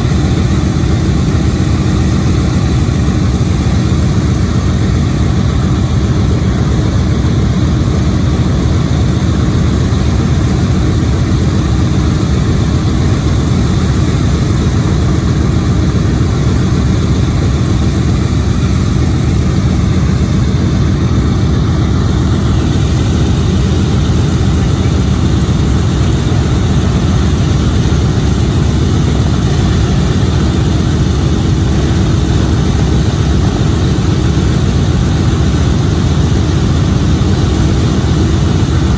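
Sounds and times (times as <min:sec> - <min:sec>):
propeller aircraft engines idling: 0:00.0 - 0:38.9.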